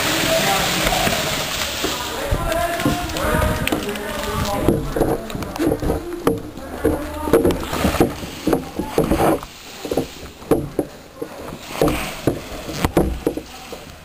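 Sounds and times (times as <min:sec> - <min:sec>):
sharp clicks and knocks: 0:00.8 - 0:14.0.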